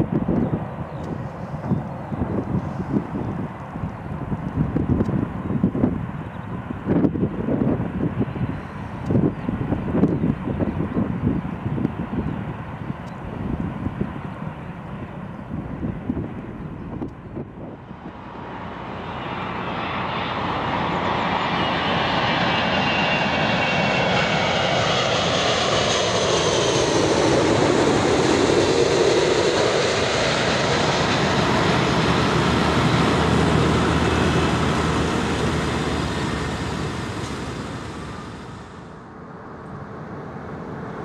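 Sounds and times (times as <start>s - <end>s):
falling jet engine whine: 0.0s - 41.0s
jet airliner passing: 0.0s - 41.0s.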